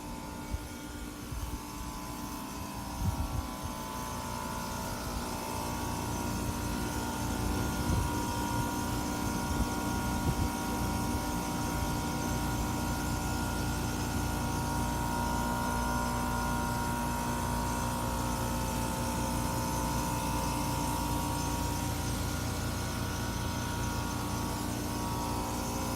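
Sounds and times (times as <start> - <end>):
hvac machine hum: 0.0 - 25.9.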